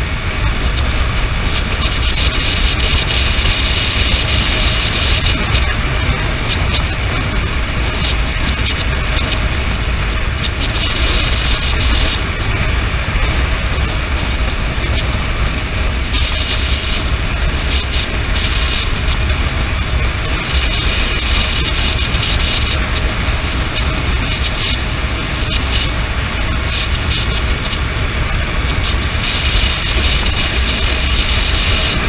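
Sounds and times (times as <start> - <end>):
motorcycle engine cruising: 0.0 - 32.0
wind buffeting microphone: 0.0 - 32.0.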